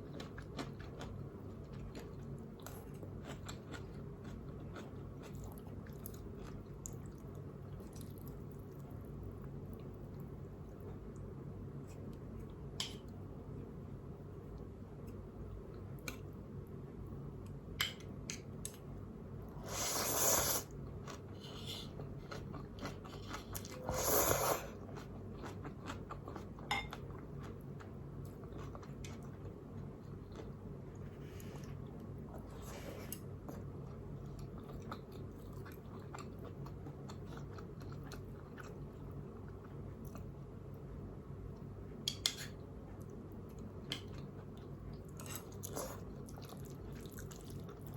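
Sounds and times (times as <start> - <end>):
soft chewing: 0.0 - 19.0, 19.6 - 47.9.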